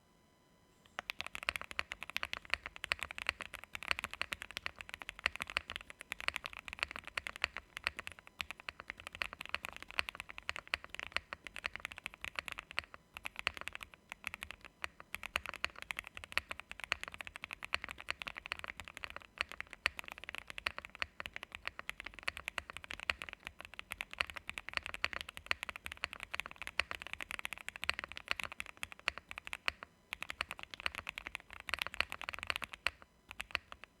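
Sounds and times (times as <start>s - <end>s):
fast typing on mechanical keyboard: 1.0s - 34.0s.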